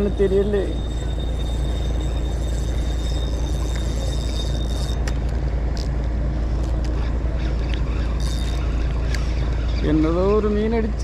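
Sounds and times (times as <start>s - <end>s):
faint high whine: 0.0s - 10.5s
steady low rumble: 0.0s - 11.0s.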